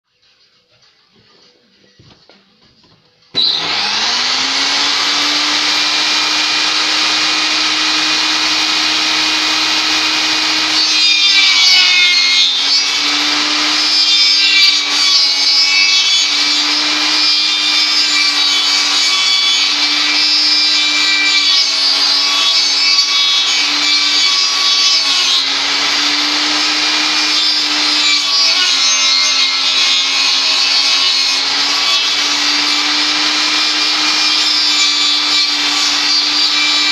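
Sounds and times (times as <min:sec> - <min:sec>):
saw blade cutting log: 0:03.4 - 0:36.9
table saw spinning up: 0:03.4 - 0:36.9.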